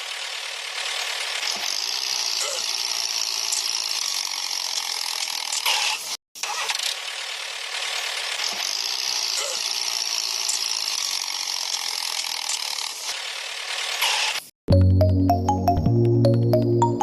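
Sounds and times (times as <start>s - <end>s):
small geared motor whirring: 0.0s - 14.5s.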